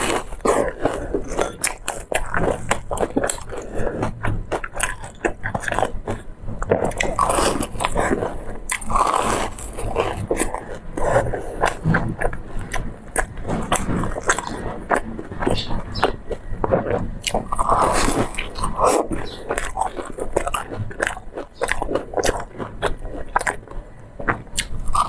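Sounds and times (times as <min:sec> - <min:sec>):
crunchy biting and chewing: 0:00.0 - 0:25.0.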